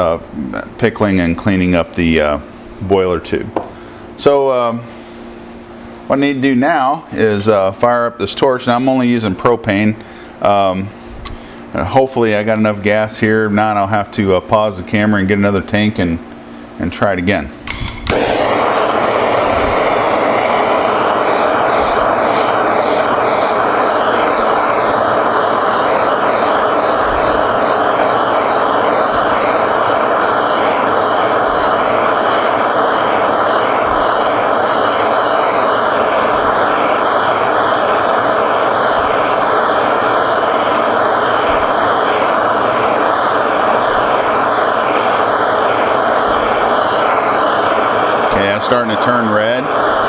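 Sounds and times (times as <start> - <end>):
propane torch hissing: 0.0 - 50.0.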